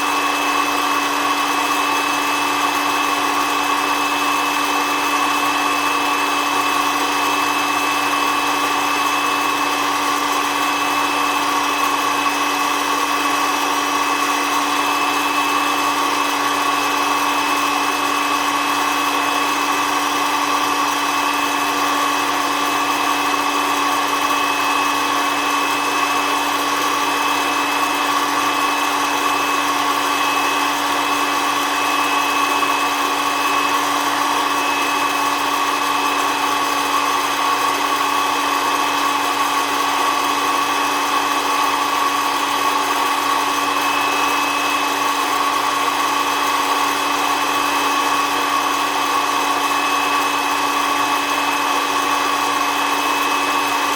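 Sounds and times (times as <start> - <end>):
blower motor whine: 0.0 - 53.9.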